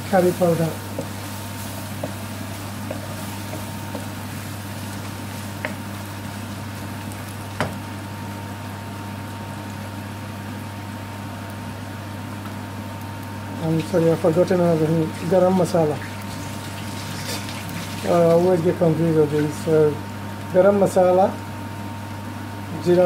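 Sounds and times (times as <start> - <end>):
onions sizzling in oil: 0.0 - 22.3
constant low hum: 0.0 - 22.8.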